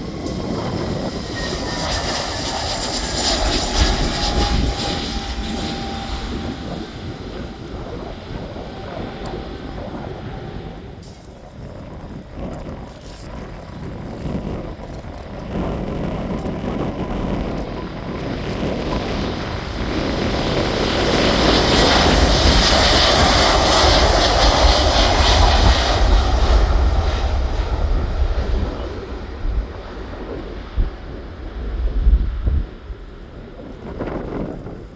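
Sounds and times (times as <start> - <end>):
jet airliner engine roar: 0.0 - 34.9.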